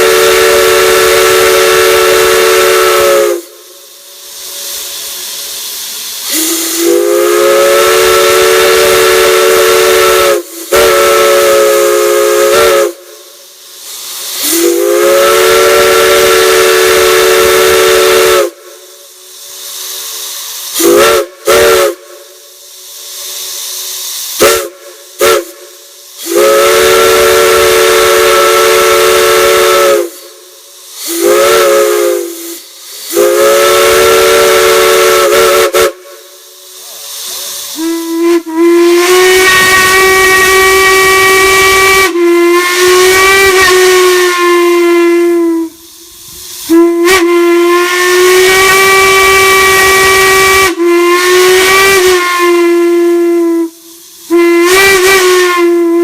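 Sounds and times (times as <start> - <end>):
steam hiss: 0.0 - 56.0.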